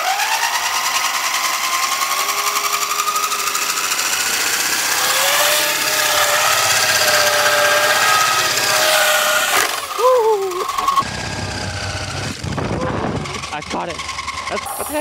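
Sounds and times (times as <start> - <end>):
lower motor tone: 0.0 - 15.0
rotary tool motor whining: 0.0 - 15.0
rotor blades buzzing: 0.0 - 15.0.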